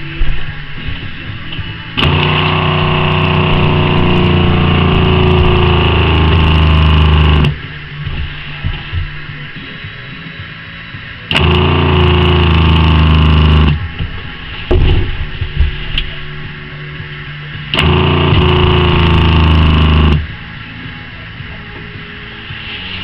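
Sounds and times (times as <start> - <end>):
water pump humming: 0.0 - 9.7, 11.2 - 22.5.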